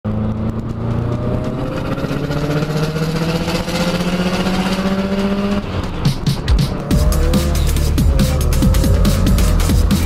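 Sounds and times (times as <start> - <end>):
car engine accelerating: 0.1 - 10.0.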